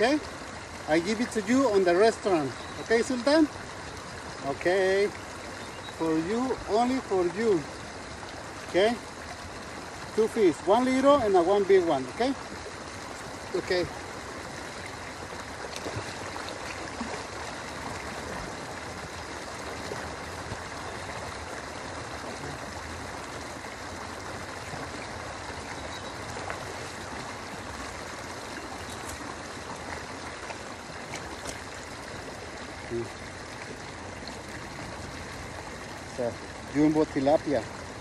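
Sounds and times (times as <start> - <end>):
river water rushing: 0.0 - 38.0
water trickling: 0.0 - 38.0.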